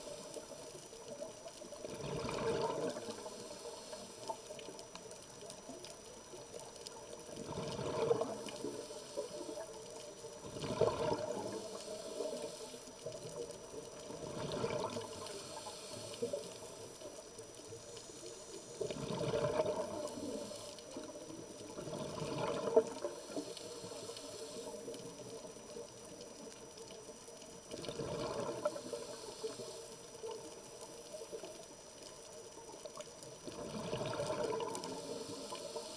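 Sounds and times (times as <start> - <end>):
exhaled bubbles underwater: 0.0 - 35.9
low water hiss: 0.0 - 35.9.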